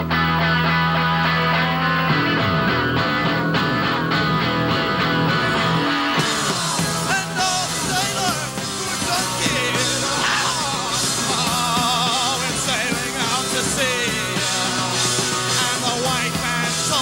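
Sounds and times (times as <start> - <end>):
drum kit: 0.0 - 17.0
electric guitars: 0.0 - 17.0.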